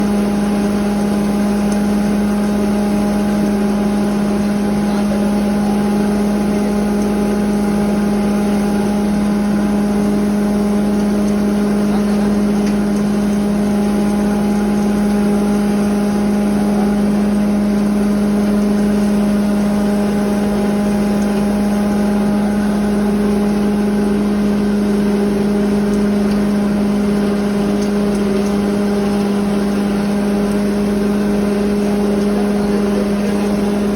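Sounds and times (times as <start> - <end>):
feed grinder humming: 0.0 - 33.9.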